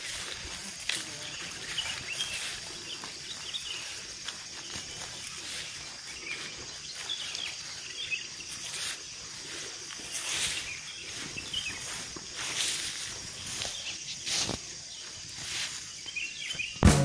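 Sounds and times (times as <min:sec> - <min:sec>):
high insect buzz: 0:00.0 - 0:17.0.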